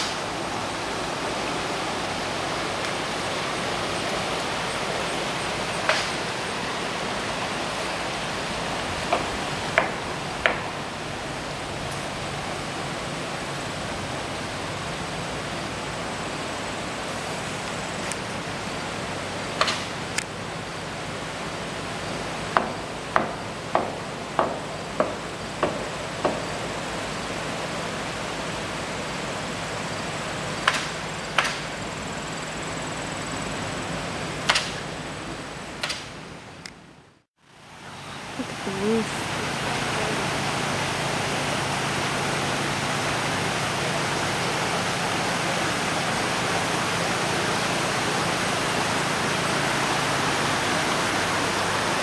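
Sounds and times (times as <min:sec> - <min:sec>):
brook water rushing: 0:00.0 - 0:36.7, 0:37.4 - 0:52.0.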